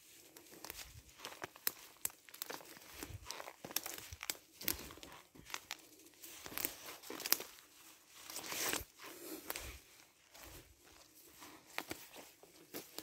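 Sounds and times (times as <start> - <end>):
footsteps on dry leaves: 0.0 - 13.0.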